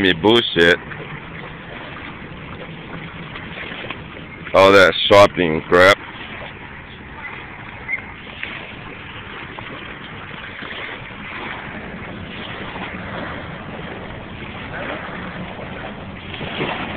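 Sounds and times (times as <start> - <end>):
surf: 0.0 - 16.9
wind on microphone: 0.0 - 16.9.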